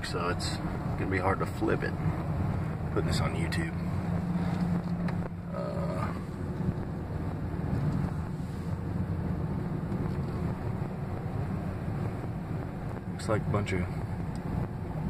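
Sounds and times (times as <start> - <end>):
road noise: 0.0 - 15.0
truck engine running: 0.0 - 15.0.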